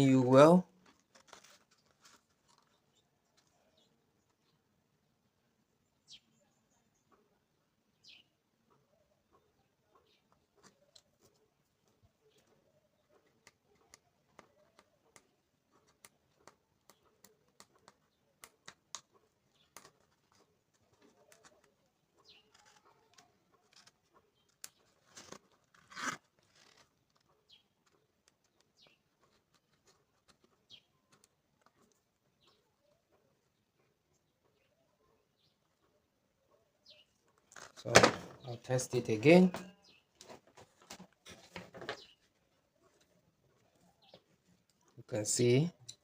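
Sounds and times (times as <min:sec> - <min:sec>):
birds chirping: 0:05.7 - 0:25.8, 0:26.5 - 0:46.0.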